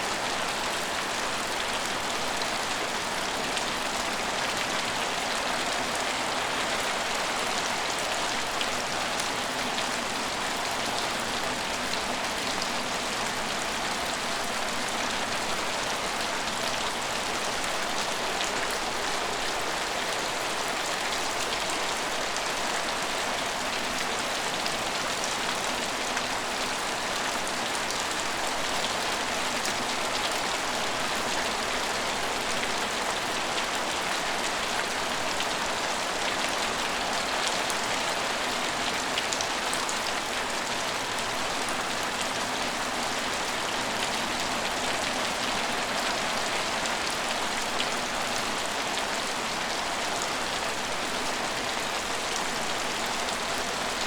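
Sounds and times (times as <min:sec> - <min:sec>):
rain on hard surfaces: 0:00.0 - 0:54.0.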